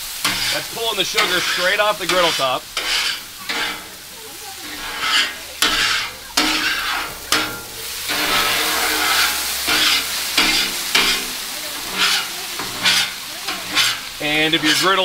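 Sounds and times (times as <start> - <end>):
water sizzling on hot griddle: 0.0 - 15.0
scraper on steel griddle: 0.1 - 15.0.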